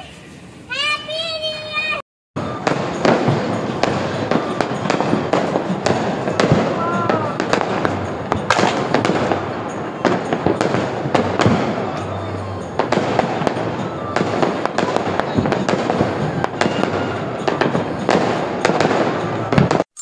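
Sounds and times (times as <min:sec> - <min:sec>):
fireworks banging and crackling: 0:00.1 - 0:20.0.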